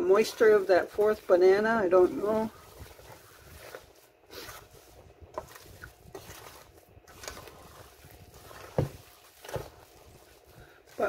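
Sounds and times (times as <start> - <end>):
utensil scraping batter in bowl: 0.0 - 11.0.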